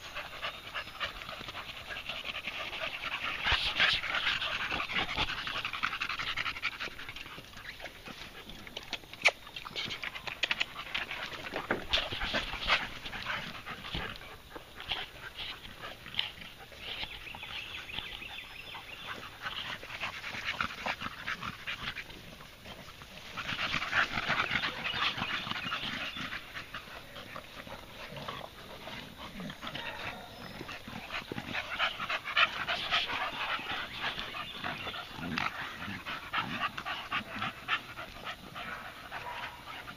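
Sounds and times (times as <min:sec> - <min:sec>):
dogs panting: 0:00.0 - 0:39.9.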